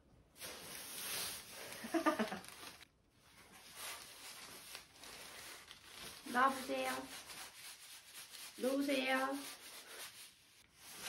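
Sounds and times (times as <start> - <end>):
curtain fabric rustling: 0.4 - 11.0.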